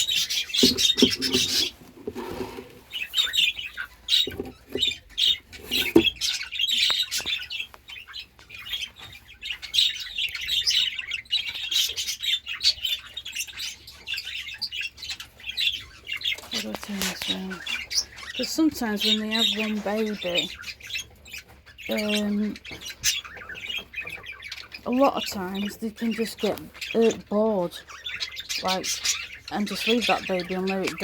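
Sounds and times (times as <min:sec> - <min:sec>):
budgerigars chattering and chirping: 0:00.0 - 0:31.0.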